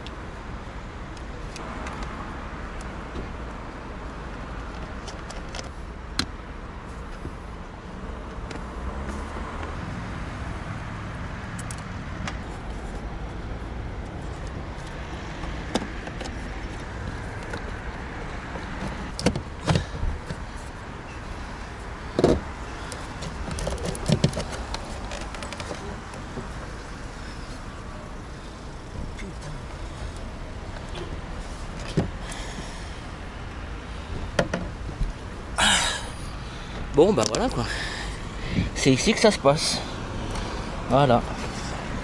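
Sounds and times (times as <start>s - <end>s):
car traffic: 0.0s - 42.0s.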